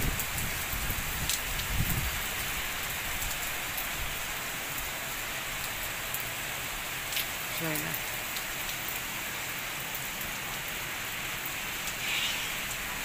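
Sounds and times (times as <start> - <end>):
heavy rain falling: 0.0 - 13.0
raindrops tapping close by: 0.0 - 13.0.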